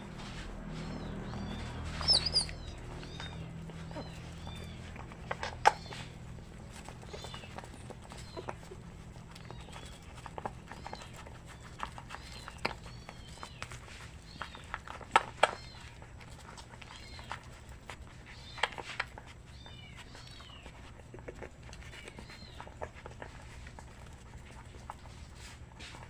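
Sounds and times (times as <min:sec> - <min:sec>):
puppies whining: 0:00.0 - 0:25.4.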